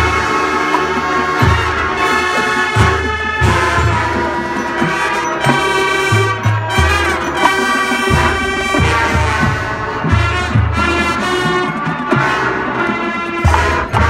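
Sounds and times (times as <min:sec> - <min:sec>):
marching band playing jazz: 0:00.0 - 0:14.0.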